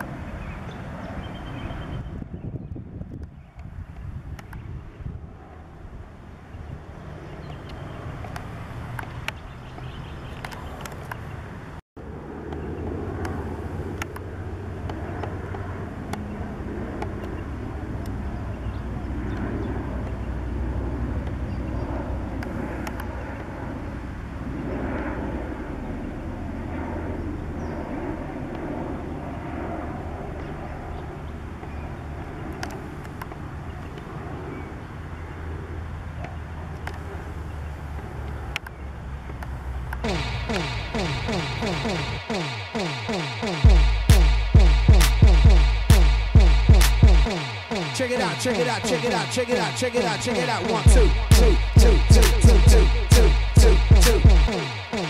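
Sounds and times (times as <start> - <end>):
turboprop airliner passing over: 0.0 - 55.0.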